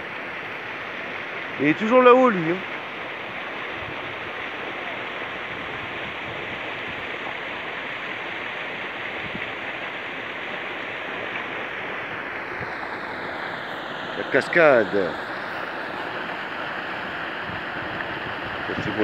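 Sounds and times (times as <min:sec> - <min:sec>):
river water rushing over cascade: 0:00.0 - 0:19.0.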